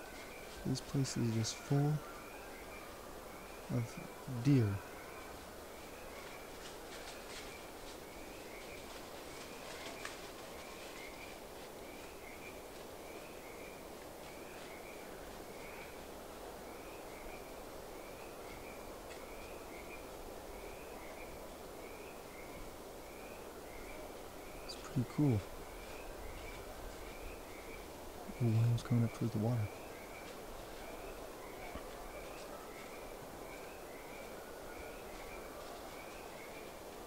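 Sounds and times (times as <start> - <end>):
faint background hiss: 0.0 - 37.0.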